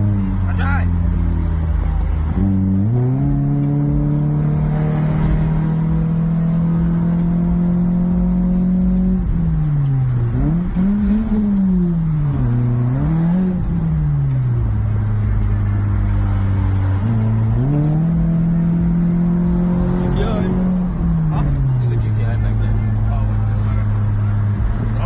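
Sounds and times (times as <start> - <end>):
car engine while driving: 0.0 - 25.0
road rumble: 0.0 - 25.0.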